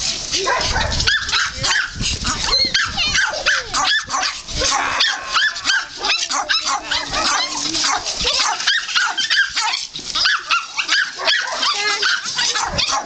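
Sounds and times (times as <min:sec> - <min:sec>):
puppies yapping and whining: 0:00.4 - 0:13.0.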